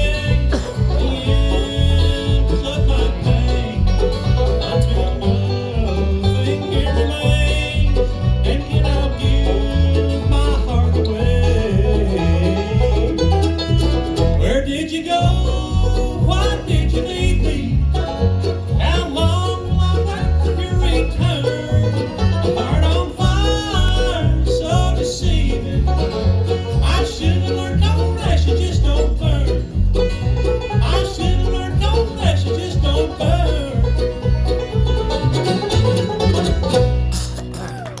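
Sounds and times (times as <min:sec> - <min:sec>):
banjo: 0:00.0 - 0:38.0
guitar: 0:00.0 - 0:38.0
pulsing bass line: 0:00.0 - 0:38.0.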